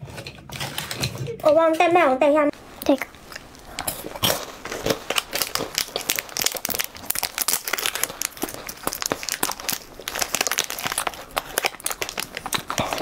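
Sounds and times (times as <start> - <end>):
plastic wrapper crinkling and tearing: 2.6 - 13.0.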